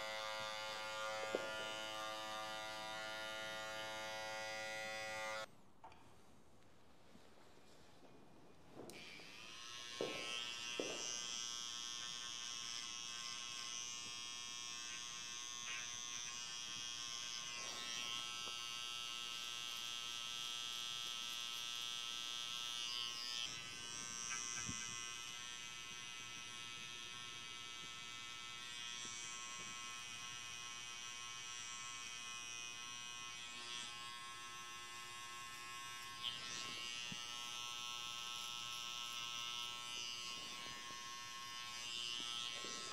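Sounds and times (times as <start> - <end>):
hair trimmer buzzing: 0.0 - 5.5, 8.9 - 42.9.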